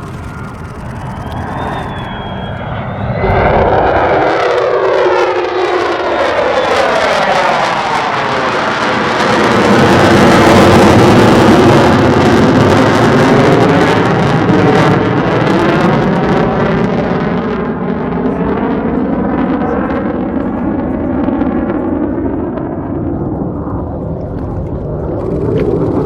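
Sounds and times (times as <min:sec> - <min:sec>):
jet engine roar passing: 0:00.0 - 0:26.0.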